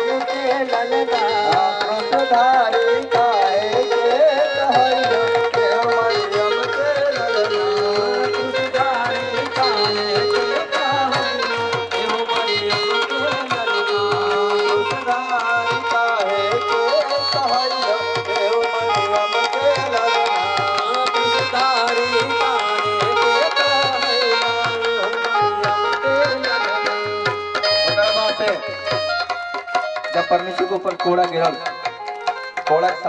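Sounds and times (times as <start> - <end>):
electronic keyboard melody: 0.0 - 33.0.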